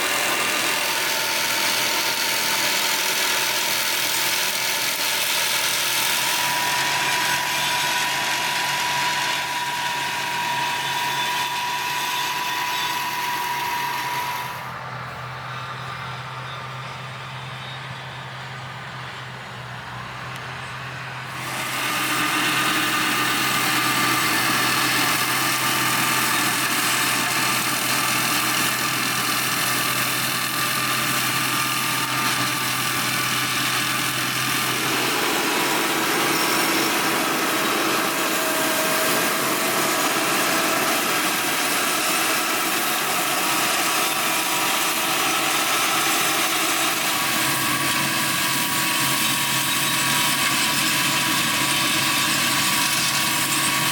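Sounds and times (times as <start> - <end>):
engine hum: 0.0 - 53.9
flail mower whirring: 0.0 - 53.9.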